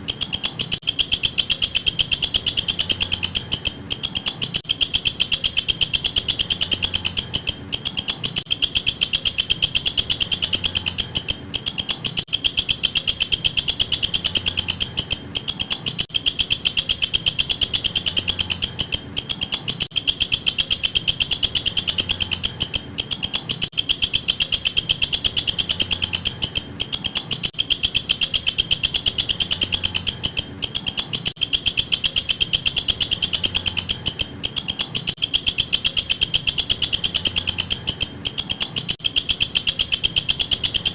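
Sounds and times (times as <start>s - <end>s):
katydid ticking trill: 0.0s - 40.9s.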